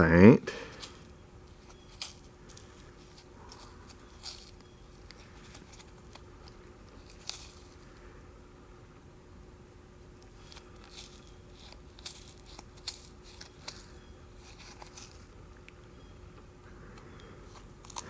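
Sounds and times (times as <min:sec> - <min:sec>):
faint steady hum: 0:00.0 - 0:18.0
soft crinkling: 0:00.7 - 0:08.3, 0:10.2 - 0:18.0.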